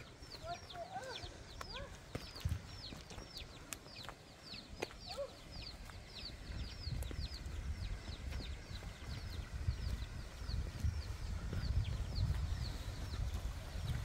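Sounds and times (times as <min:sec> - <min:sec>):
bird chirping: 0:00.0 - 0:14.0
footsteps on loose stones: 0:00.0 - 0:14.0.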